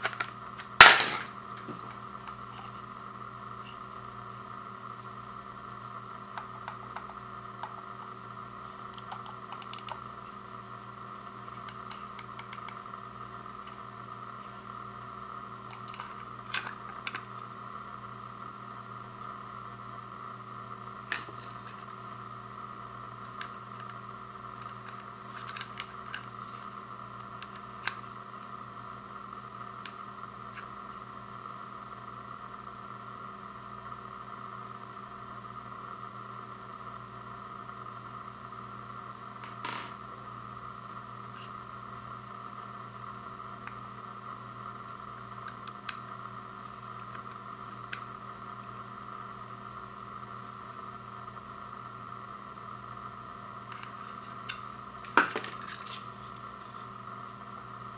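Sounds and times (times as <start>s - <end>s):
background hiss and hum: 0.0s - 57.9s.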